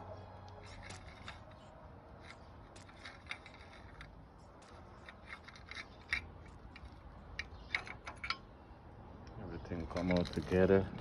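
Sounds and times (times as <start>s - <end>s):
metallic clicks and scrapes: 0.4s - 11.0s.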